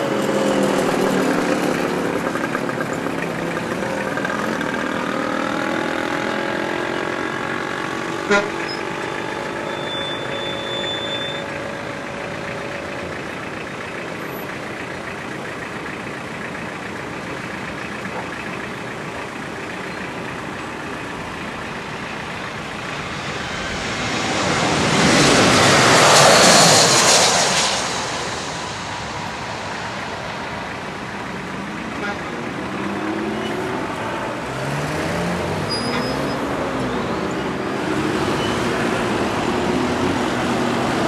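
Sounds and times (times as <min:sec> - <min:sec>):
aircraft roaring overhead: 0:00.0 - 0:41.0
road traffic noise: 0:00.0 - 0:41.0.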